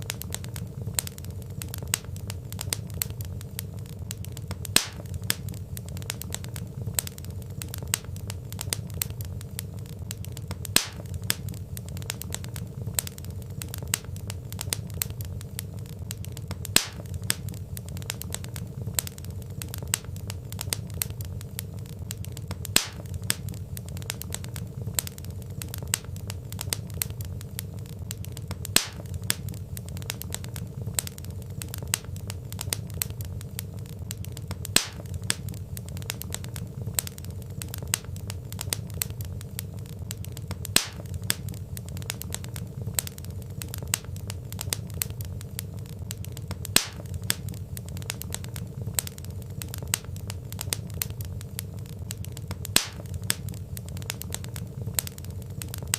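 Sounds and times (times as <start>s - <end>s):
log fire crackling: 0.0s - 55.9s
loud pop from the fire: 0.0s - 55.9s
low rumble of flames: 0.0s - 55.9s.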